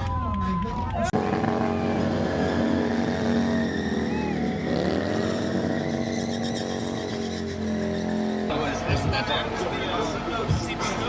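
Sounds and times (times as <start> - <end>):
motorcycle engines revving high: 1.1 - 11.0.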